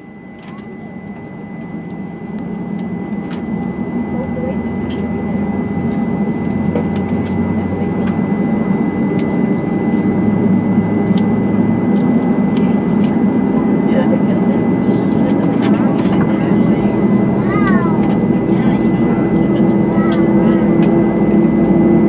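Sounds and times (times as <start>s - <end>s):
aircraft cabin engine drone: 0.0s - 22.0s.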